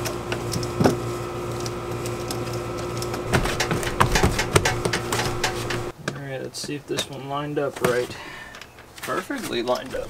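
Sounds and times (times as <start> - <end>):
mechanical hum: 0.0 - 9.0.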